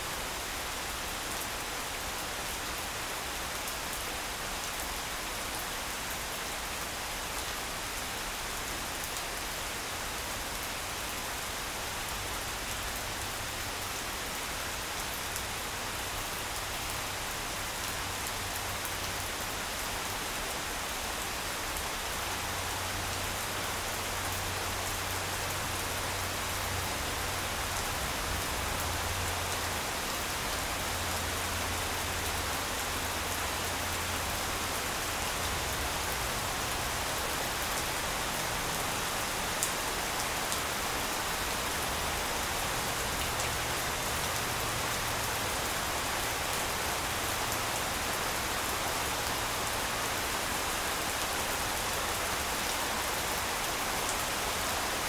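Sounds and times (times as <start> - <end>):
rain falling on grass: 0.0 - 55.0.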